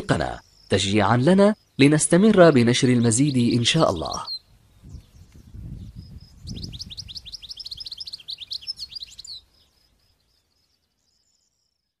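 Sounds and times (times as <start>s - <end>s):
goldfinch singing: 0.0s - 11.8s.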